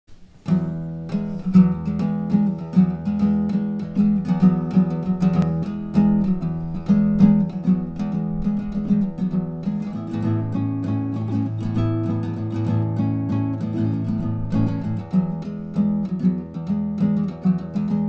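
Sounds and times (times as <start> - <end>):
acoustic guitar strumming: 0.1 - 18.0.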